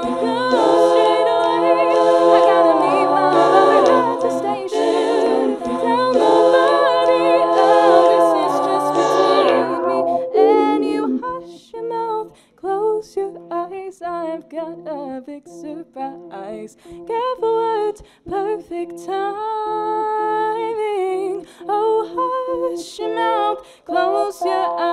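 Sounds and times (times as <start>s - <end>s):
a cappella vocal harmonies: 0.0s - 24.9s.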